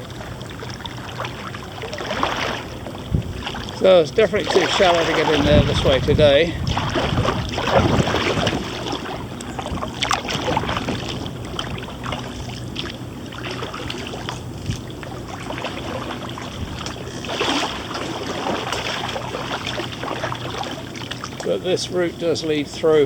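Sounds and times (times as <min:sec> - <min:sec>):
water splashes and drips: 0:00.0 - 0:21.6
paddle dipping into water: 0:00.0 - 0:21.7.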